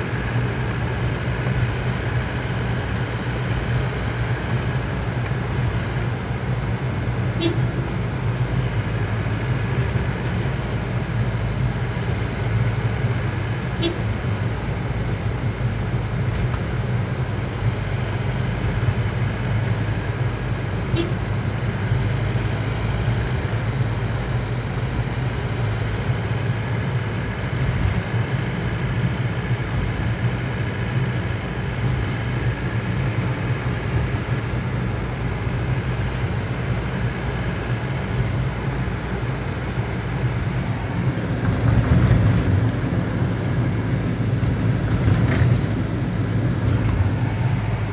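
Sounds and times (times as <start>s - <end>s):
car engine drone: 0.0s - 47.9s.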